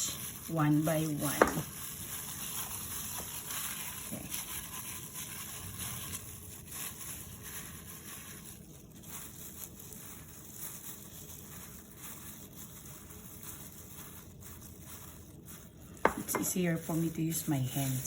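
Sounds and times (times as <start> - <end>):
chicken rolled in flour by hand: 0.0 - 18.0.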